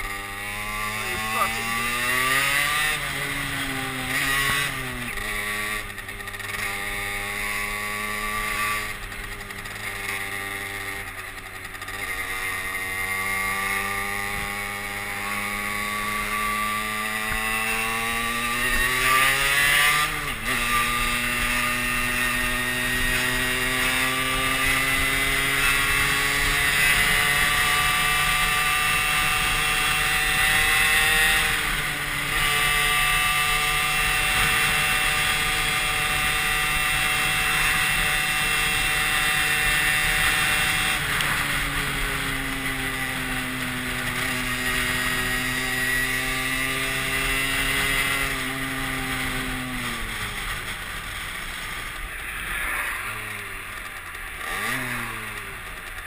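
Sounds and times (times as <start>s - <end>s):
moped engine accelerating: 0.0s - 56.0s.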